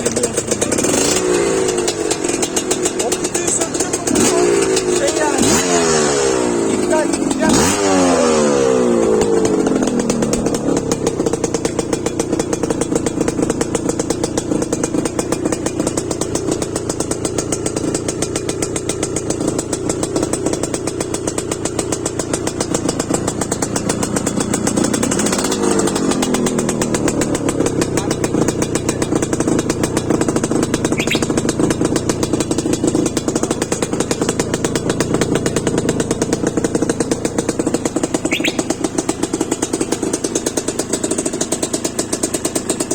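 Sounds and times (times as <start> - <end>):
motorcycle engine idling and revving: 0.0 - 42.9.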